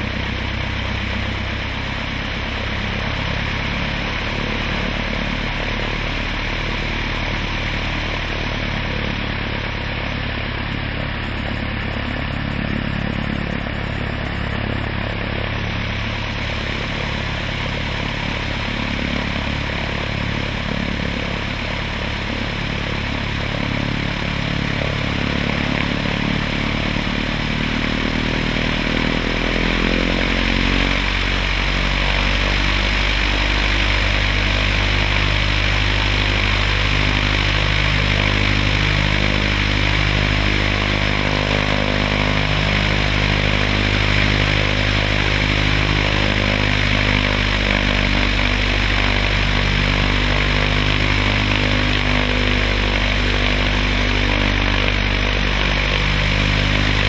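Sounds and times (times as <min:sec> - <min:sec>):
propeller aircraft engine idling and revving: 0:00.0 - 0:57.0.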